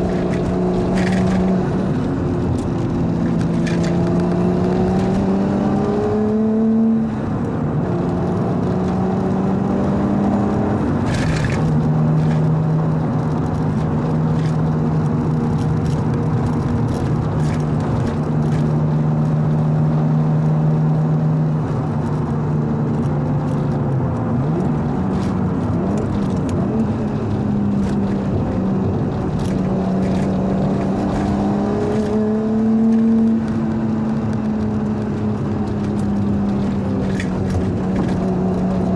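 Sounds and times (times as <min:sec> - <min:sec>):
car engine revving: 0:00.0 - 0:20.1, 0:20.7 - 0:38.9.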